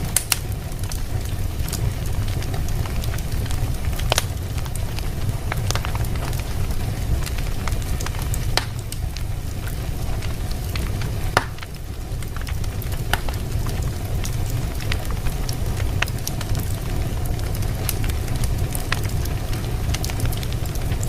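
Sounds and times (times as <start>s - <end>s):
fire crackling and popping: 0.0s - 21.0s
low rumble: 0.0s - 21.0s.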